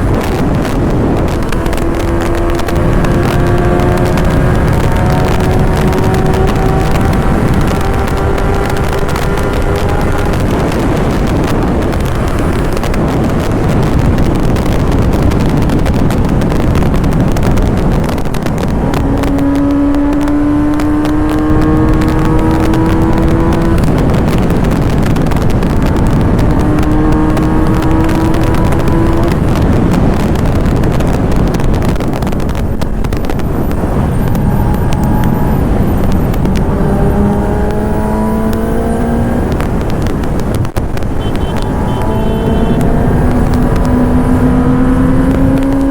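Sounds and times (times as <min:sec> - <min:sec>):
motorcycle engine accelerating: 0:00.0 - 0:45.9
wind rush on microphone: 0:00.0 - 0:45.9.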